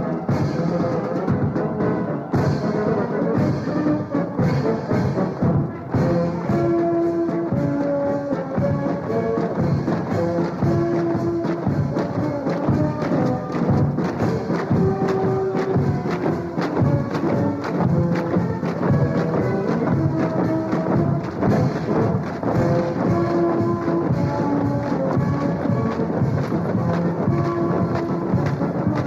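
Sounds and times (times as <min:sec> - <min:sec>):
orchestral music with brass: 0:00.0 - 0:29.0
timpani and percussion hits: 0:00.0 - 0:29.0.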